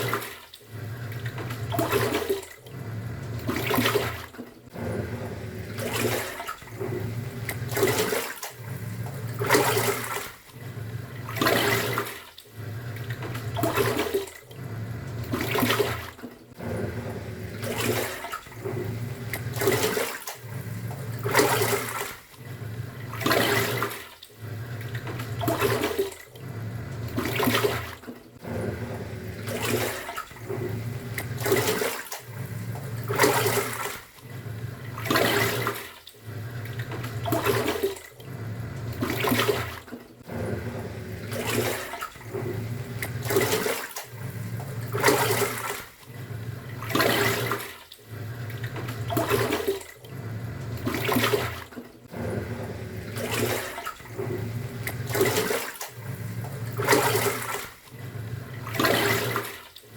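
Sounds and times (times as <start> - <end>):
washing machine motor humming: 0.0 - 59.9
water sloshing: 0.0 - 59.9.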